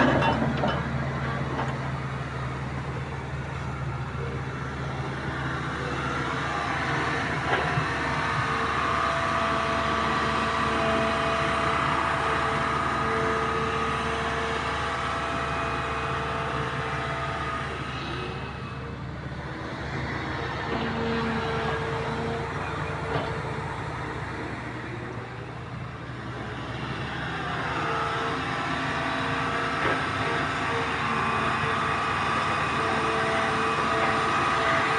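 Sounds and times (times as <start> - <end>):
bulldozer diesel engine under load: 0.0 - 34.9.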